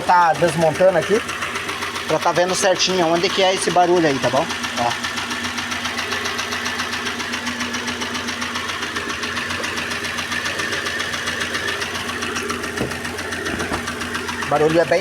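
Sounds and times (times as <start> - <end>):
car engine idling: 0.0 - 15.0
rapid even engine ticking: 0.0 - 15.0.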